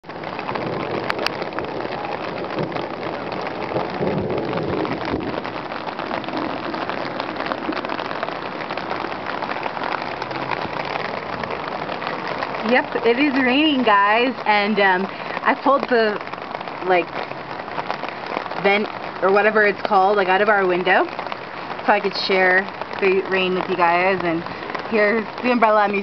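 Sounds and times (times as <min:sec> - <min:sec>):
steady rain patter: 0:00.0 - 0:26.0.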